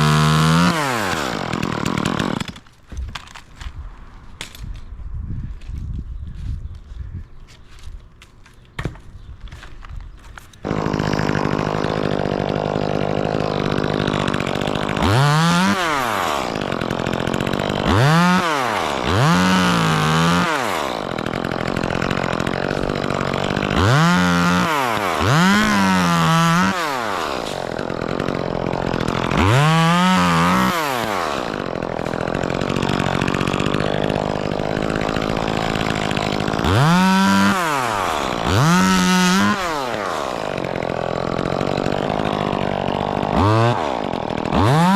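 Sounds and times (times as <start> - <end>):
chainsaw revving: 0.0 - 2.7, 10.6 - 44.9.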